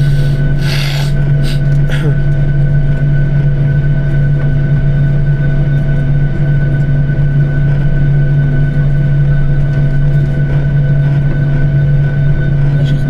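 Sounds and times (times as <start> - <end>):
jet engine hum in cabin: 0.0 - 13.0.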